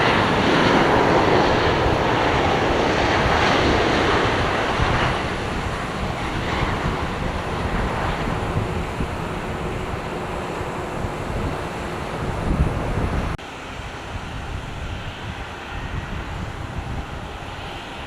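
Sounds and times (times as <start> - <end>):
jet airliner engines rushing: 0.0 - 18.0.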